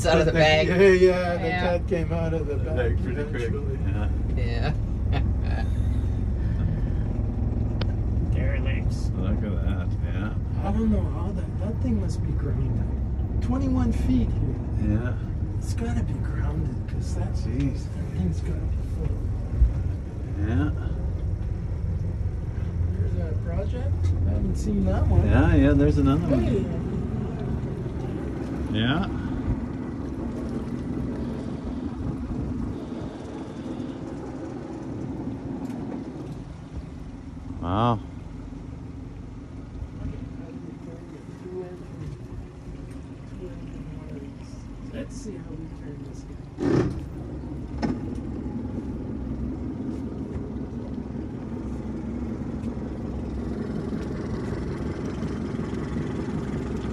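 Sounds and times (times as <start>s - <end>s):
motorboat engine running: 0.0s - 56.9s.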